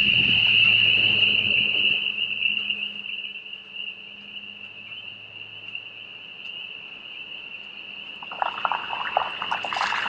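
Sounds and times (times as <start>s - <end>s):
chorus of calling frogs or insects: 0.0s - 10.0s.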